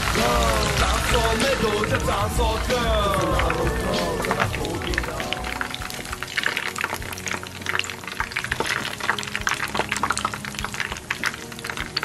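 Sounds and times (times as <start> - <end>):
tofu sizzling in hot oil: 0.0 - 2.5, 3.4 - 12.0.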